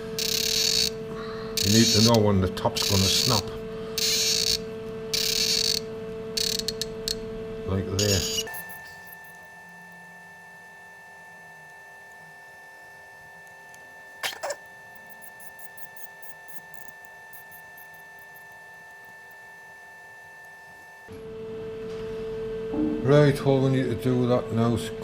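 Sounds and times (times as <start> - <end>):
steady multi-tone hum: 0.0 - 25.0.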